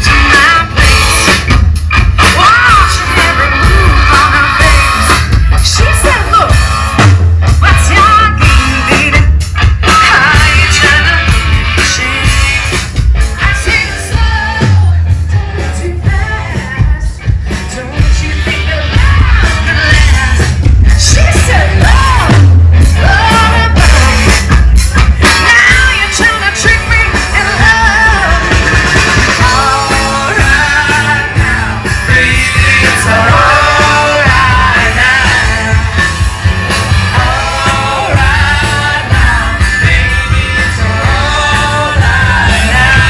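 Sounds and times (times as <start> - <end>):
rock music with singing: 0.0 - 43.0.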